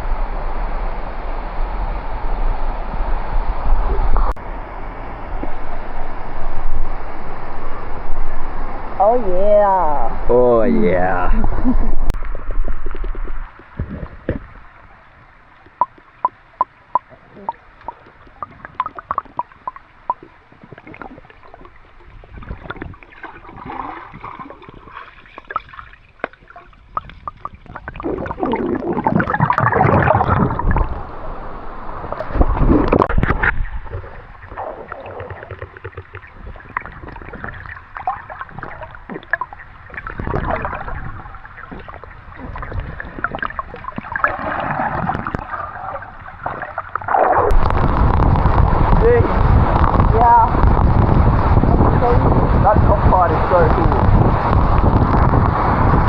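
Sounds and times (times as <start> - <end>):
creek water gurgling: 2.0 - 56.0.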